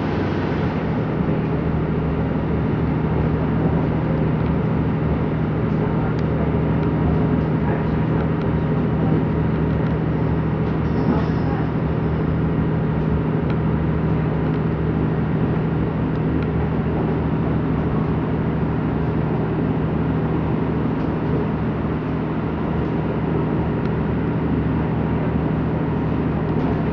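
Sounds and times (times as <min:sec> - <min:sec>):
constant low hum: 0:00.0 - 0:26.9
train diesel engine drone: 0:00.0 - 0:26.9
train running rumble: 0:00.0 - 0:26.9.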